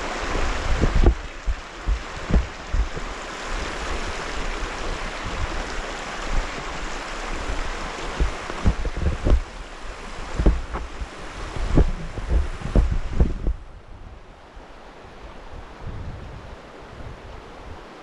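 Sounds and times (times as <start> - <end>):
flowing creek water: 0.0 - 18.0
wind buffeting microphone: 0.0 - 18.0.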